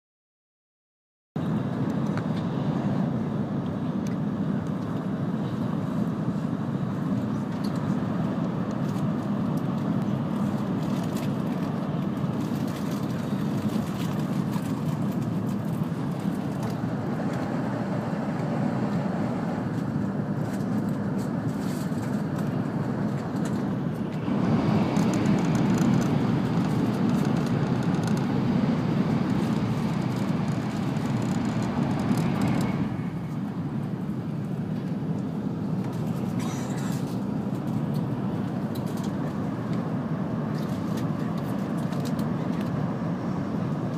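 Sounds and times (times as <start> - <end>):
high-speed train rumble: 1.4 - 43.9.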